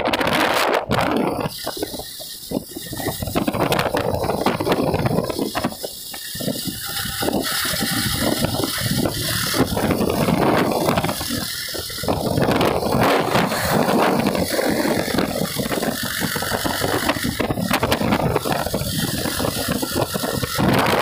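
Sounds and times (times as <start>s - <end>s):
motorcycle engine: 0.0s - 21.0s
wind rushing over microphone: 0.0s - 21.0s.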